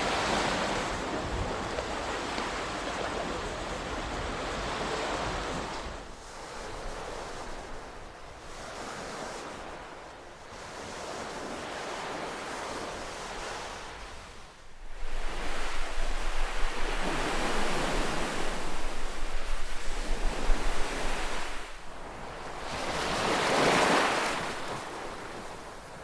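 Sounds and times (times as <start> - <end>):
ocean waves washing on shore: 0.0 - 26.0.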